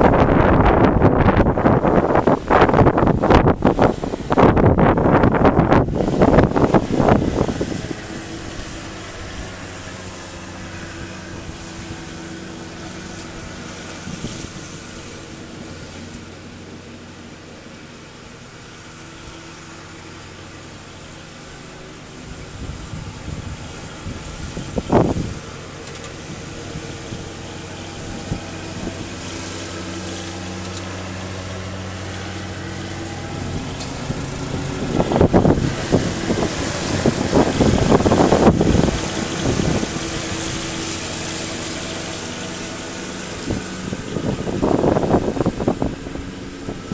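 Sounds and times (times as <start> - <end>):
riding lawn mower engine: 0.0 - 46.9.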